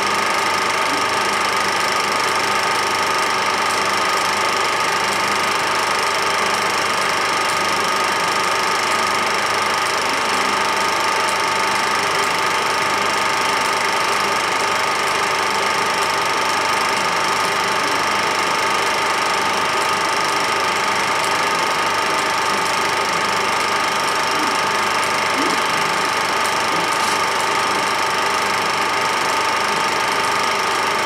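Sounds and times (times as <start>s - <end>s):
film projector whirring: 0.0s - 31.0s.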